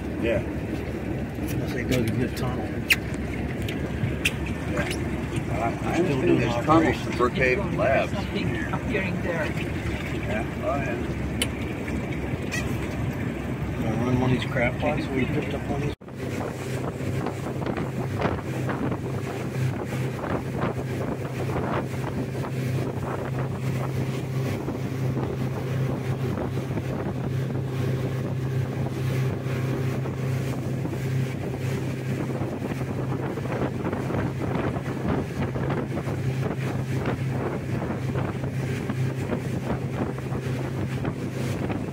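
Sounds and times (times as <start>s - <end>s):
motorboat engine drone: 0.0s - 41.9s
wind buffeting microphone: 0.0s - 41.9s.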